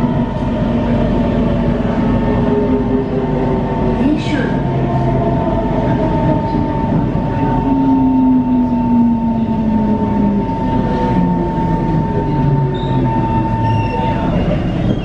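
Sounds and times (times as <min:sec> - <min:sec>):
high train whine: 0:00.0 - 0:15.0
train wheels rumbling: 0:00.0 - 0:15.0.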